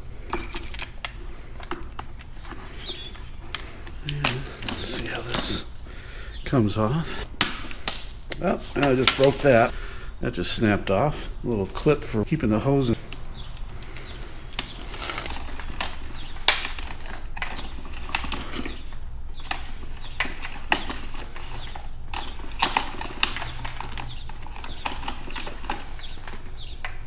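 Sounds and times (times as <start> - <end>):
faint low hum: 0.0 - 27.0
hard plastic parts clicking: 0.0 - 27.0.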